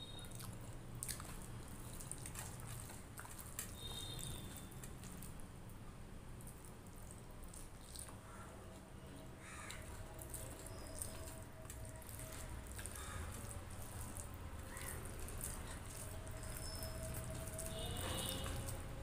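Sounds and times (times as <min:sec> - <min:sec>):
wet mouth clicks and chewing: 0:00.1 - 0:05.4, 0:06.4 - 0:08.8, 0:09.7 - 0:18.8.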